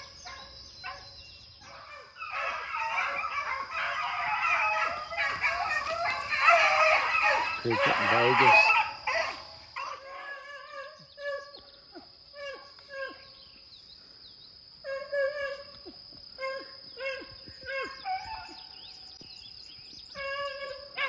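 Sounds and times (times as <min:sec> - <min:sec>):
beagles baying and barking: 0:00.0 - 0:14.2, 0:14.8 - 0:21.0.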